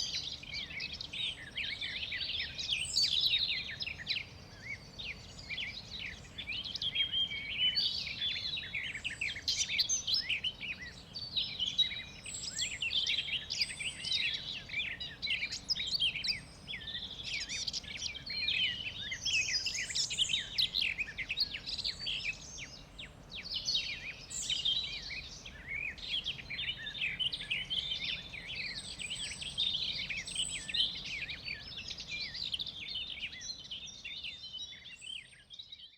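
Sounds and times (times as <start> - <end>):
birds chirping in chorus: 0.0 - 35.9
faint background hiss: 0.0 - 35.9.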